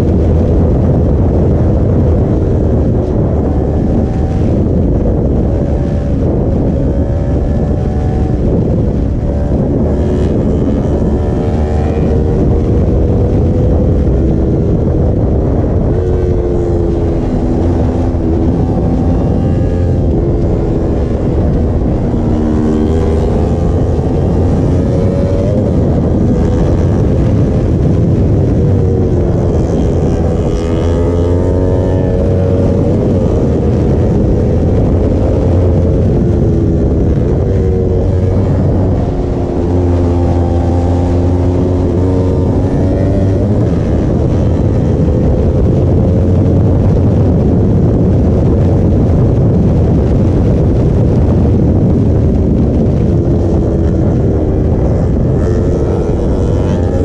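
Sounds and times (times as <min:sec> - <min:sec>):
low rumble: 0:00.0 - 0:57.0
motorcycle engine revving: 0:00.0 - 0:57.0.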